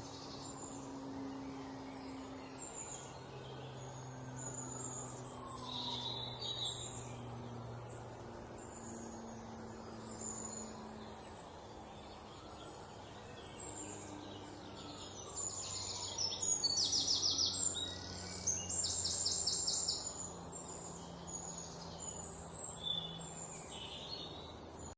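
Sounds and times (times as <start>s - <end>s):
birds chirping and trilling: 0.0s - 24.9s
low steady hum: 0.0s - 24.9s.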